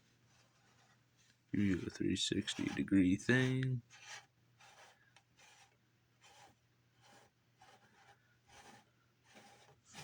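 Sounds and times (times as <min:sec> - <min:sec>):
soft rubbing of plastic figure: 0:00.0 - 0:10.0.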